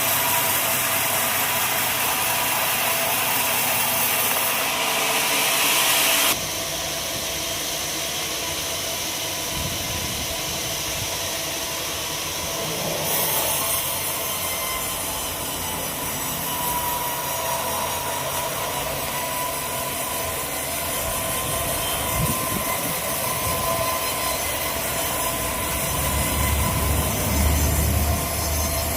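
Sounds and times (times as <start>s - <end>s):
sawmill machinery running: 0.0s - 28.9s.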